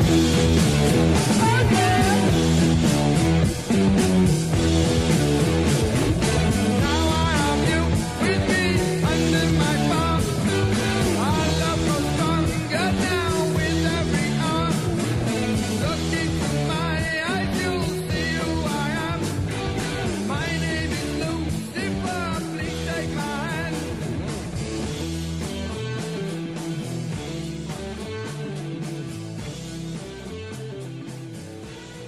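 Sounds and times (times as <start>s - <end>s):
rock music with bass line: 0.0s - 32.0s.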